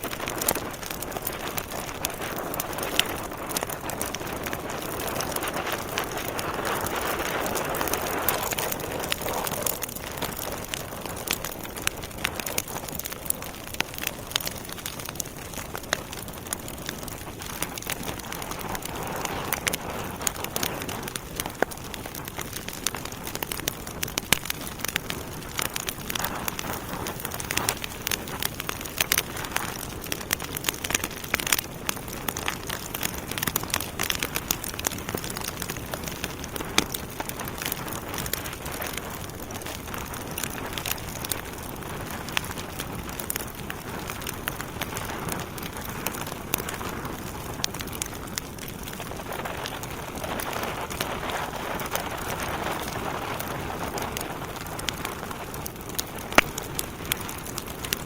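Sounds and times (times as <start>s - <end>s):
logs burning with crackles and pops: 0.0s - 58.0s.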